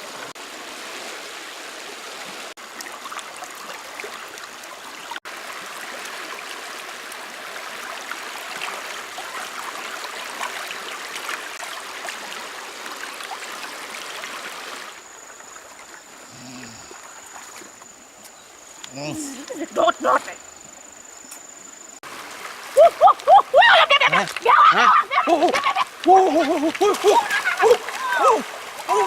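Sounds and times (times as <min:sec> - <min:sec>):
small water splashes: 0:00.0 - 0:20.3, 0:22.0 - 0:29.0
stream water running: 0:00.0 - 0:29.0.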